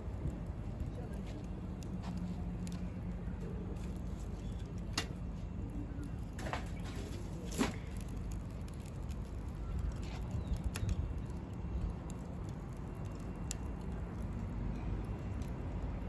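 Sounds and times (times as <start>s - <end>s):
campfire crackling: 0.0s - 16.0s
low fire rumble: 0.0s - 16.0s.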